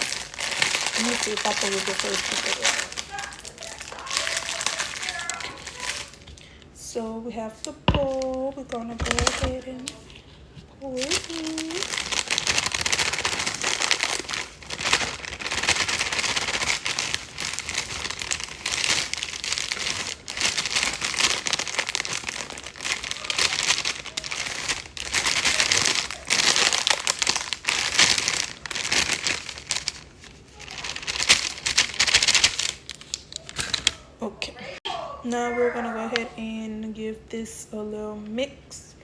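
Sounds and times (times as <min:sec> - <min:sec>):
packet crinkling: 0:00.0 - 0:06.7, 0:07.6 - 0:34.2.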